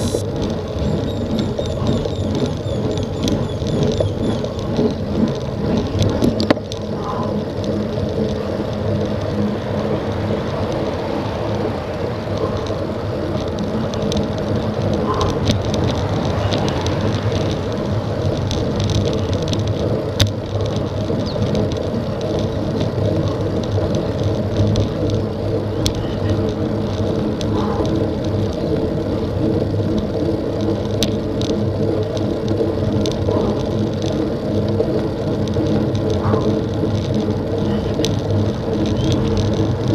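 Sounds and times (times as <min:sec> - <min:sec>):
bicycle tyre noise: 0:00.0 - 0:39.9
sharp bicycle clicks: 0:00.0 - 0:39.9
wind rumble: 0:00.0 - 0:39.9.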